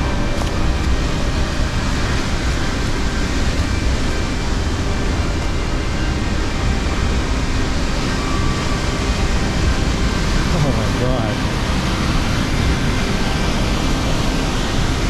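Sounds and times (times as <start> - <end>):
rushing white water roar: 0.0 - 15.0.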